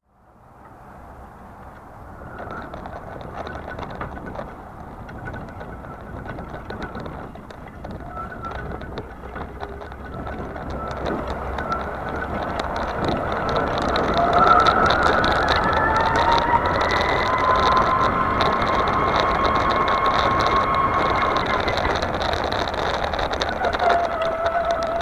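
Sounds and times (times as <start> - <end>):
rolling tyre noise: 0.0 - 25.0.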